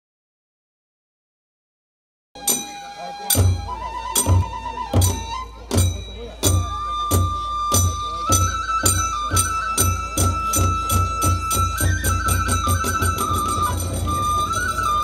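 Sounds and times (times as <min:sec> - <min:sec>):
bamboo flute long high notes: 0:02.4 - 0:15.0
hand cymbals clashing: 0:02.4 - 0:15.0.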